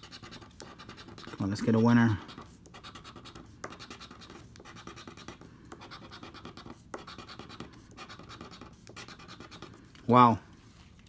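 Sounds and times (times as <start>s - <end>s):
chip scratching lottery ticket: 0.0s - 9.8s.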